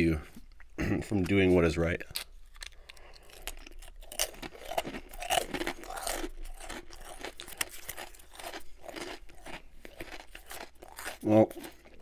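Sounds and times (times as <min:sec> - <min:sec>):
cookie crunching and chewing: 0:02.0 - 0:12.0.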